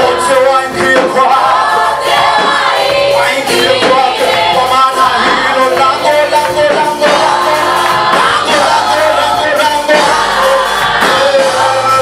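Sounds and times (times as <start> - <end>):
gospel band playing: 0.0 - 12.0
group of singers: 0.0 - 12.0.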